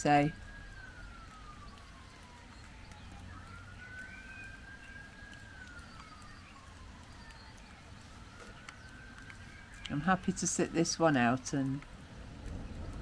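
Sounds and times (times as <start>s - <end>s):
faint siren wailing: 0.0s - 13.0s.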